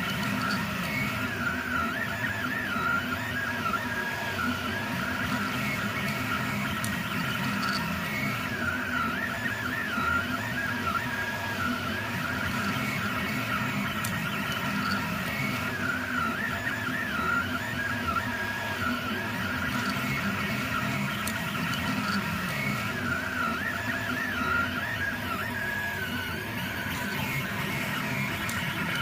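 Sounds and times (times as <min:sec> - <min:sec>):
cooling fans whirring: 0:00.0 - 0:29.0
stepper motors whining: 0:00.0 - 0:29.0.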